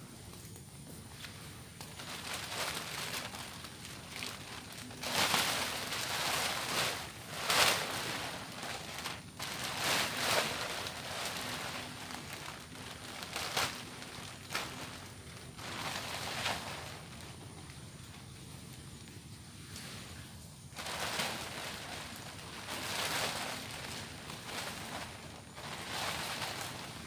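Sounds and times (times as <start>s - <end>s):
plastic tarp crinkling: 1.7s - 18.2s, 20.7s - 27.0s.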